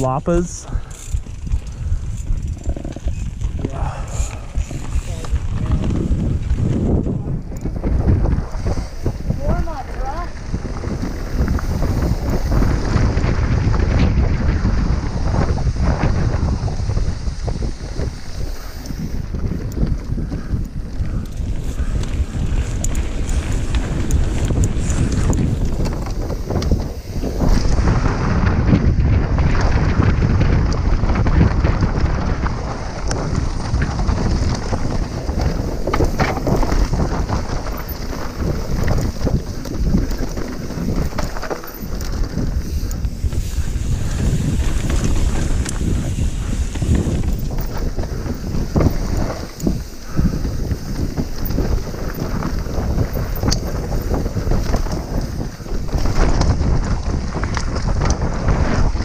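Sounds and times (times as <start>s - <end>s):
bike rattling over bumps: 0.0s - 59.0s
tyres running over gravel: 0.0s - 59.0s
wind buffeting microphone: 0.0s - 59.0s.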